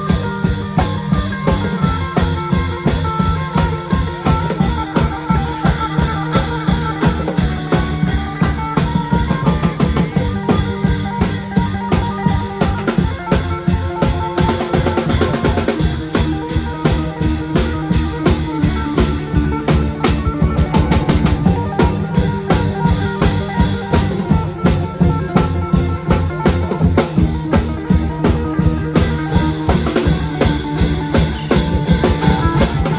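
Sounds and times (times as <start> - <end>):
bass drum beat: 0.0 - 32.9
drum band playing: 0.0 - 32.9
pitched melody line: 0.0 - 32.9.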